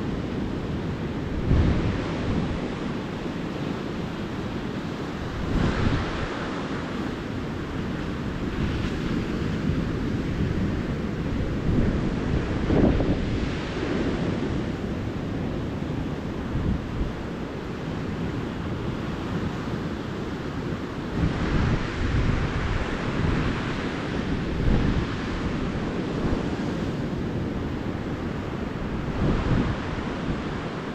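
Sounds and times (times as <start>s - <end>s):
ocean waves washing up beach: 0.0s - 30.9s.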